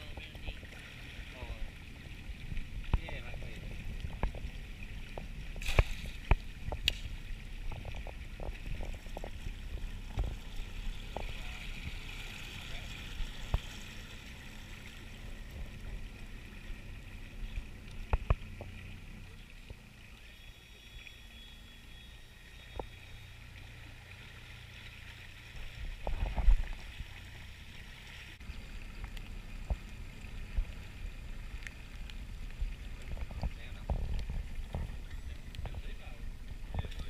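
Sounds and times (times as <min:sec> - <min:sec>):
low rumble of boat: 0:00.0 - 0:37.0.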